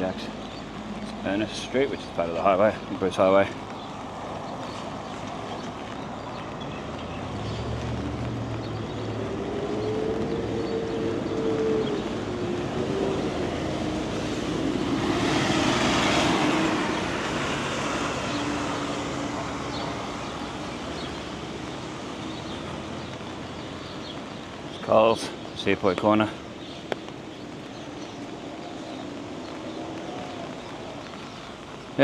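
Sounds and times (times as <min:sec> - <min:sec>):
highway traffic on wet road: 0:00.0 - 0:32.0
tyres hissing on wet road: 0:00.0 - 0:32.0.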